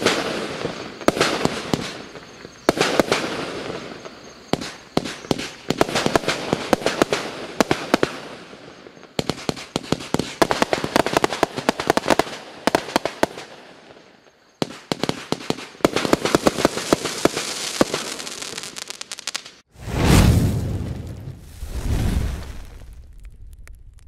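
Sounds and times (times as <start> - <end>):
fireworks popping and bursting: 0.0 - 13.5, 14.6 - 24.0.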